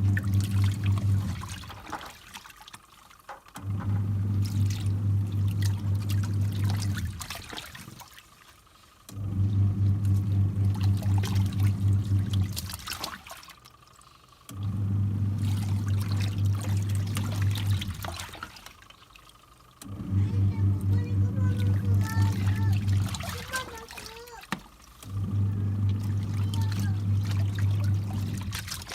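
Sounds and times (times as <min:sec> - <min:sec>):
washing machine motor humming: 0:00.0 - 0:28.9
water sloshing in wash tub: 0:00.0 - 0:28.9.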